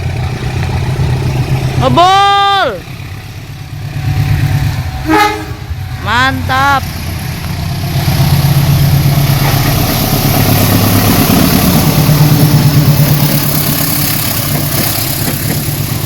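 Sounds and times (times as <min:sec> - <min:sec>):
diesel locomotive engine running hard: 0:00.0 - 0:16.0.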